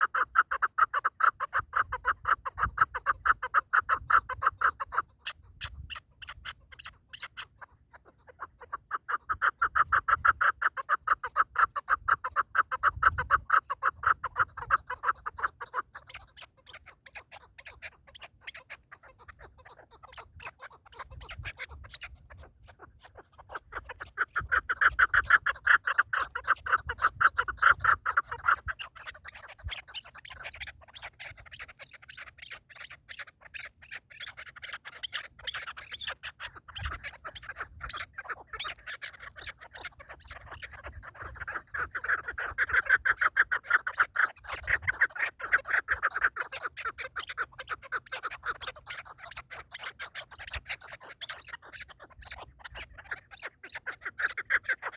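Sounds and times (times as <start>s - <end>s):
partridge clucking calls: 0.0s - 54.9s.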